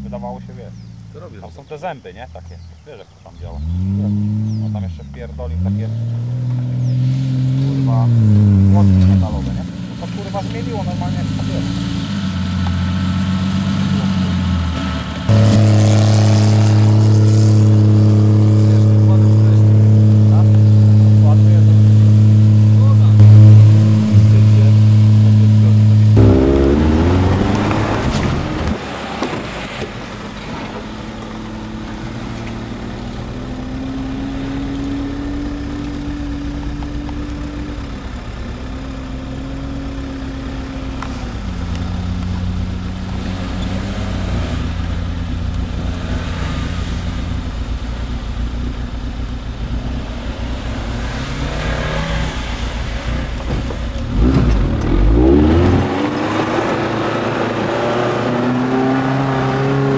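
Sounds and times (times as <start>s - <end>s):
engine pulling up a hill: 0.0s - 59.9s
engine revving with wheels spinning: 0.0s - 59.9s.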